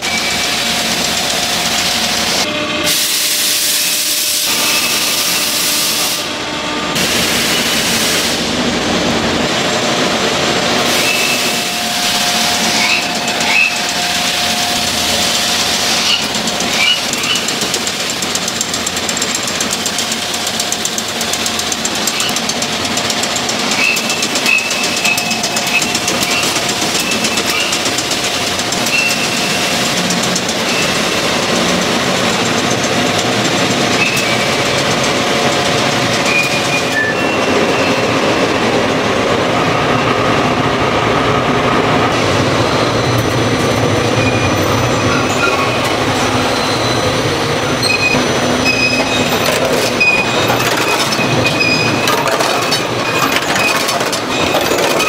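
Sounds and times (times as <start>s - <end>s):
machinery metallic clatter: 0.0s - 3.0s, 6.9s - 40.5s, 41.8s - 55.0s.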